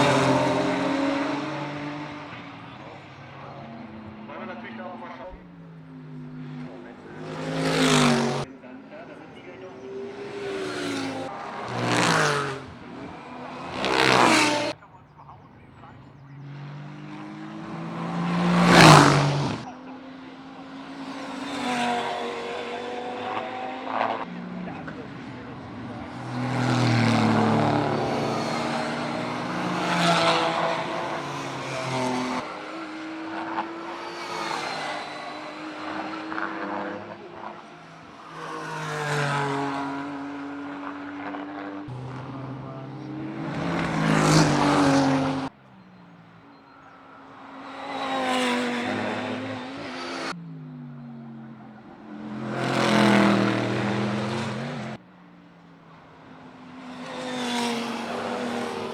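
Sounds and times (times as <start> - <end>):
racing cars passing at speed: 0.0 - 58.9.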